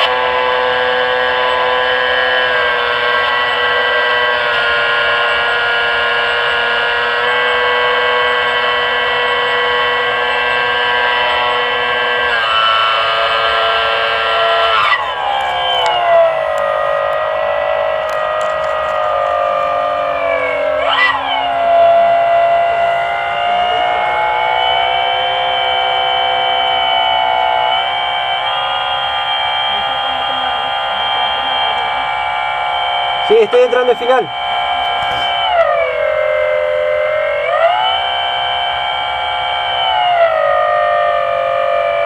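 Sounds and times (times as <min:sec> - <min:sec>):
model aircraft motor whine: 0:00.0 - 0:42.0.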